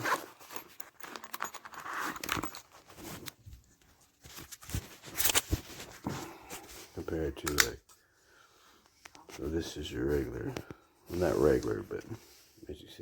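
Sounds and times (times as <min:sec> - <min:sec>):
objects rustling when handled: 0:00.0 - 0:07.9, 0:08.8 - 0:12.6.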